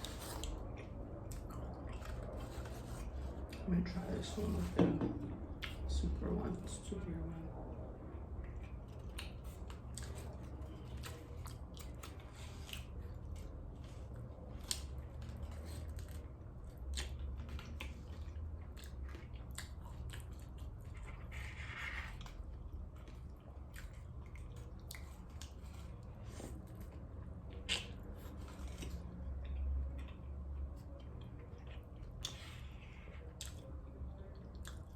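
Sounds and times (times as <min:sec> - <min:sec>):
biting and chewing: 0:00.0 - 0:03.7, 0:08.2 - 0:34.9
food crunching: 0:00.0 - 0:03.7, 0:08.4 - 0:34.9.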